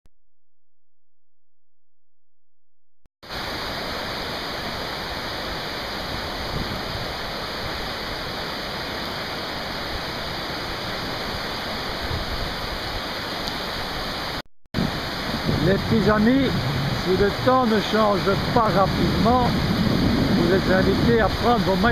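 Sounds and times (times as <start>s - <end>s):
river rushing in flood: 3.2s - 21.9s.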